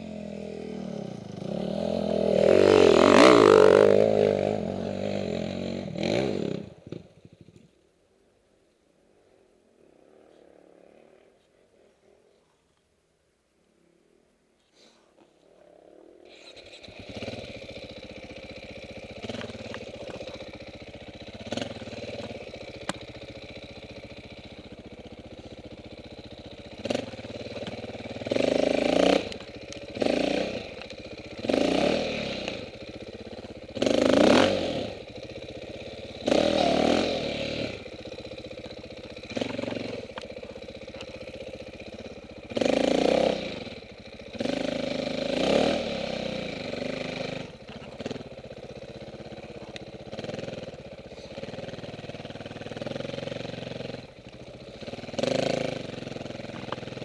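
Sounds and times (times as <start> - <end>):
dirt bike engine revving: 0.0 - 7.6, 16.3 - 57.0.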